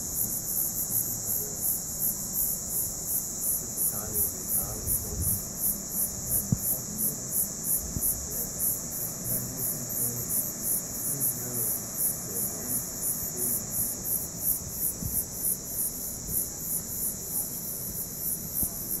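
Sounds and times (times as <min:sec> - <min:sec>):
high insect drone: 0:00.0 - 0:19.0
insects chirping: 0:00.0 - 0:19.0.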